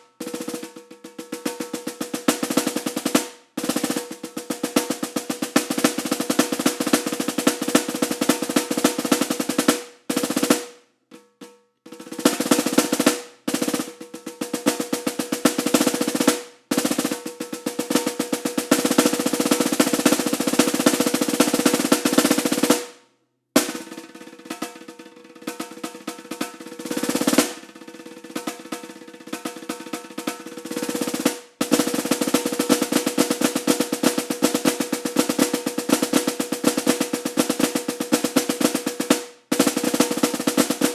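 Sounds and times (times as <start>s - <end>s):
snare drum rolls: 0.0s - 11.3s, 11.9s - 23.0s, 23.6s - 40.9s.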